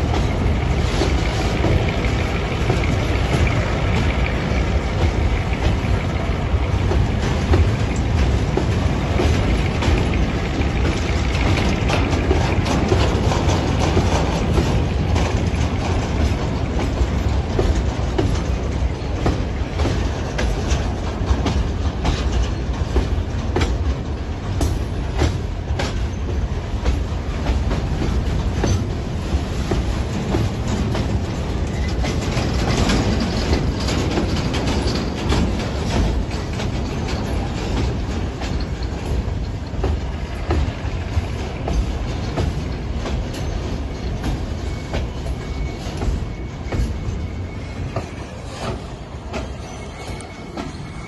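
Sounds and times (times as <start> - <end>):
train wheels clicking over rail joints: 0.0 - 51.0.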